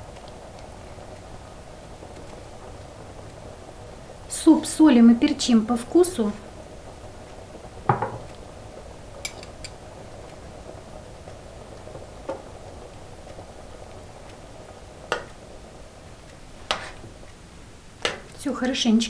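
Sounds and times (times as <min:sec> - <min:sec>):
simmering soup hiss: 0:00.0 - 0:19.0.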